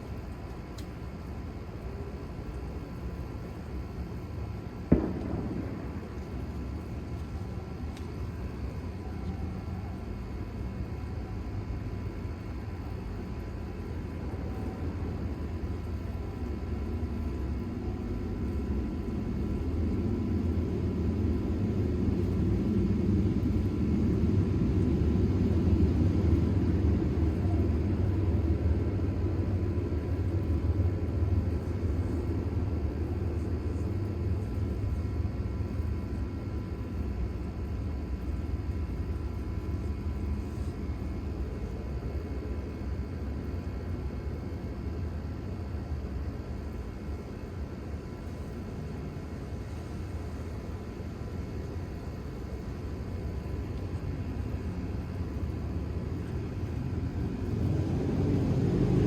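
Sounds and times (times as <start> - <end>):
distant airplane rumble: 3.2 - 12.4, 13.7 - 45.4, 46.6 - 59.0.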